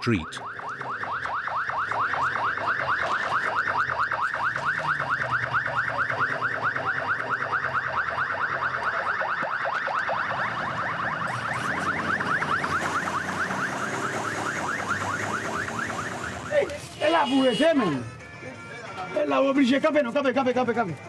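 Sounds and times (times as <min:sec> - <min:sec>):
emergency siren yelping: 0:00.0 - 0:17.2.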